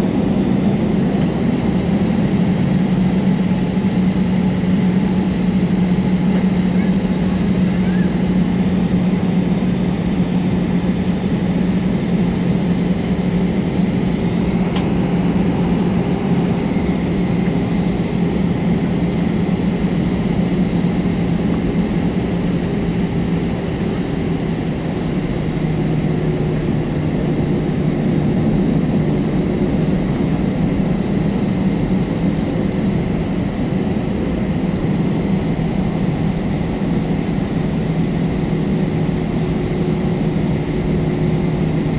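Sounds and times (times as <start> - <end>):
jet engine cabin drone: 0.0 - 41.9.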